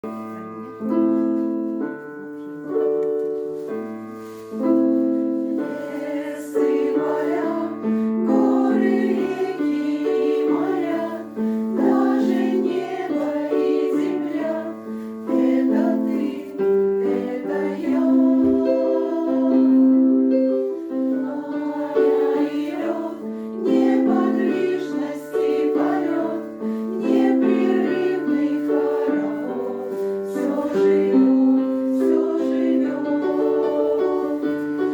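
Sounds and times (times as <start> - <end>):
piano: 0.0 - 34.9
choir singing: 5.4 - 34.9.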